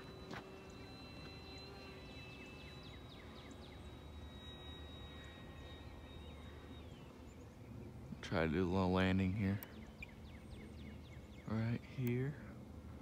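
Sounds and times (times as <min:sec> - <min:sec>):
model plane motor whine: 0:00.0 - 0:11.4.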